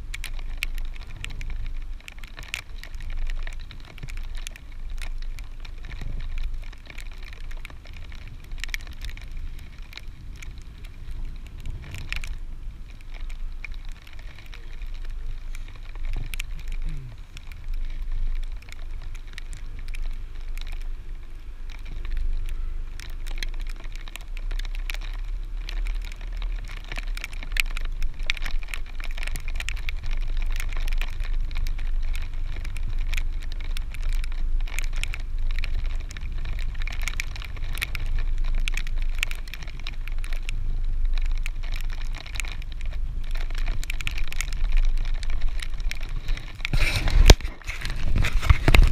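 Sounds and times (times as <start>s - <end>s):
crackles and clicks: 0.0s - 48.9s
wind buffeting microphone: 0.0s - 48.9s.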